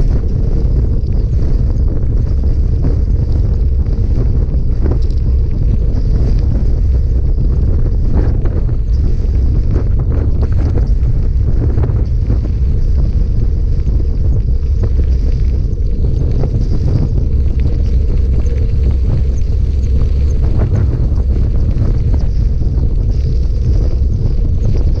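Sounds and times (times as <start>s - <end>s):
tyres crunching on gravel: 0.0s - 25.0s
wind noise on microphone: 0.0s - 25.0s.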